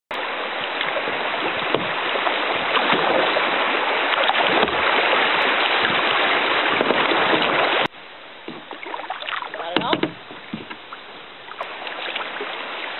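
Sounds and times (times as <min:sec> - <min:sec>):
river water rushing: 0:00.1 - 0:12.9.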